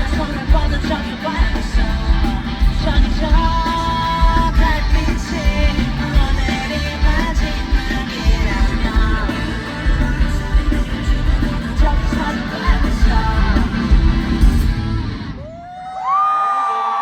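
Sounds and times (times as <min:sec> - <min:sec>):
man singing: 0:00.0 - 0:14.8
live rock-pop band: 0:00.0 - 0:16.0.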